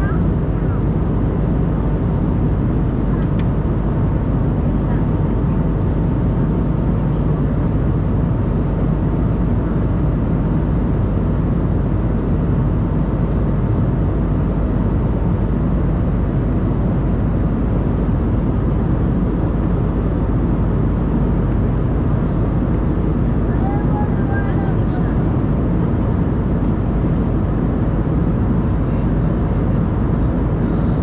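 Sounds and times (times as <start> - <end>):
airplane cabin noise in flight: 0.0 - 31.0
faint steady whine: 0.0 - 31.0.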